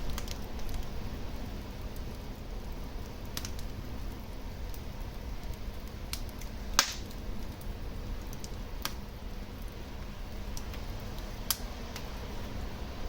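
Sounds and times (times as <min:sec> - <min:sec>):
sharp pops of fire: 0:00.0 - 0:12.2
fire crackling: 0:00.0 - 0:13.0
fire rushing: 0:00.0 - 0:13.0.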